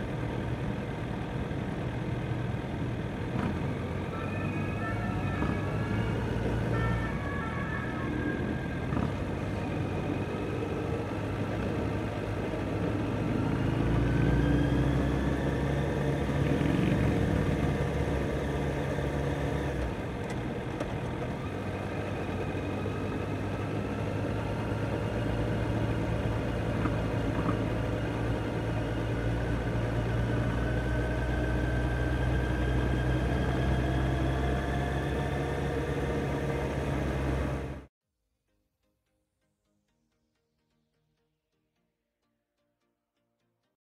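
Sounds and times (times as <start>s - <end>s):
motorcycle engine running: 0.0s - 6.8s, 7.5s - 37.9s.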